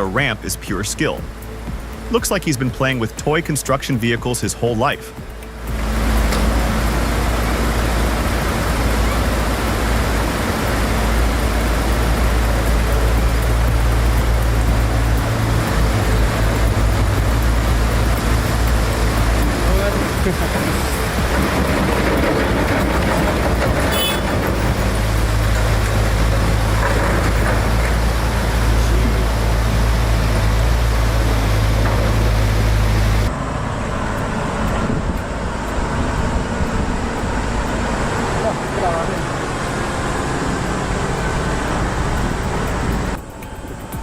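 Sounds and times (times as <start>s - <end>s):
diesel machinery rumbling: 0.0s - 44.0s.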